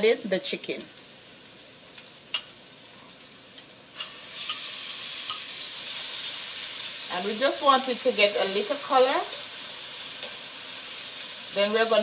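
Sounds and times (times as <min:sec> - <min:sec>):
oil sizzling in a frying pan: 0:00.0 - 0:12.0.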